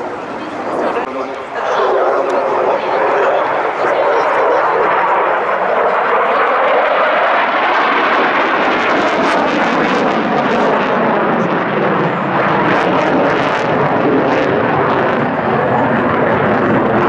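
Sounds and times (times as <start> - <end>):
aircraft engine in flight: 0.0 - 17.0.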